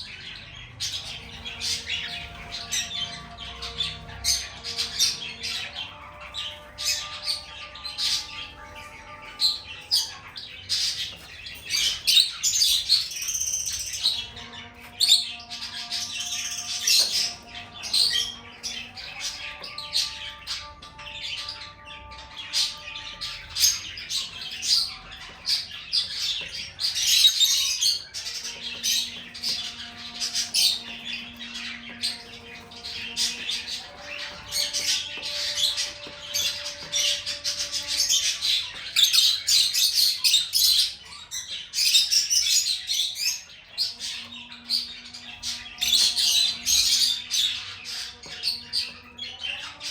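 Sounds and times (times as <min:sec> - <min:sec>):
lovebird chirping and squawking: 0:00.0 - 0:49.9.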